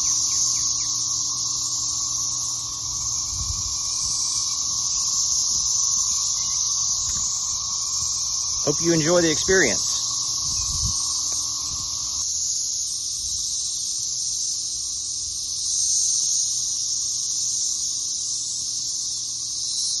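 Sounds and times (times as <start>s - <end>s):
cicadas chorus drone: 0.0s - 20.0s.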